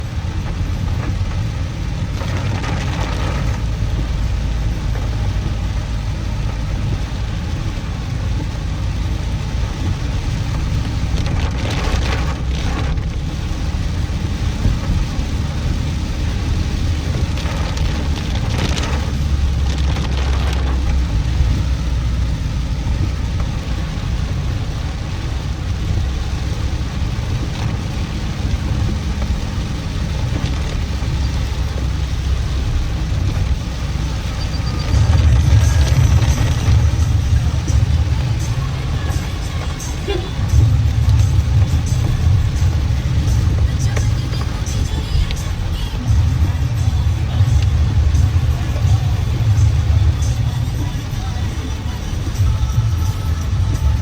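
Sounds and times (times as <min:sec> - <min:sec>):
engine and road rumble: 0:00.0 - 0:54.0
rain hiss: 0:00.0 - 0:54.0
vehicle swishes: 0:00.0 - 0:54.0.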